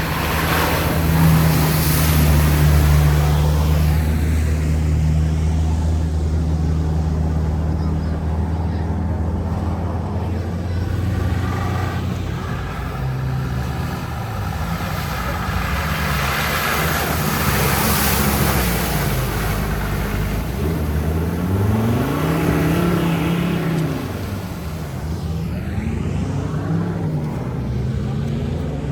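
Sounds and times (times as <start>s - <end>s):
jeep engine revving: 0.0s - 28.9s
rush of noise: 0.0s - 28.9s.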